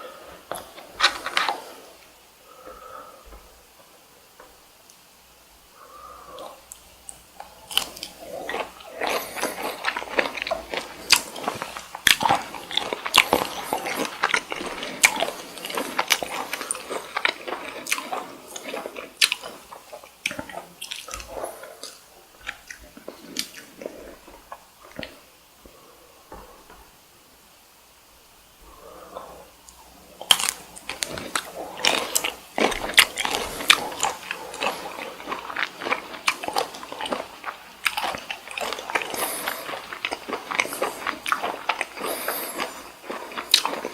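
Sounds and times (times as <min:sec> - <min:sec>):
close chewing with mouth clicks: 0:00.0 - 0:02.0, 0:06.3 - 0:25.2, 0:29.1 - 0:43.9.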